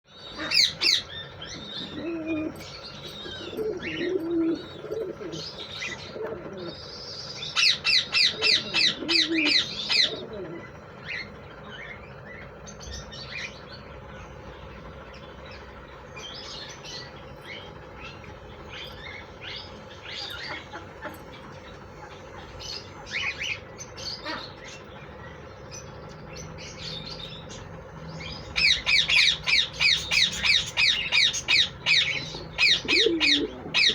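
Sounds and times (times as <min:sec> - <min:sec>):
parakeets squawking: 0:00.1 - 0:33.9.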